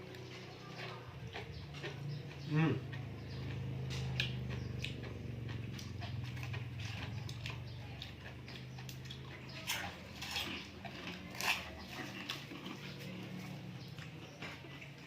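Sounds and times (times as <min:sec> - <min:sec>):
crunchy bites: 0:00.0 - 0:15.0
person chewing: 0:00.0 - 0:15.0.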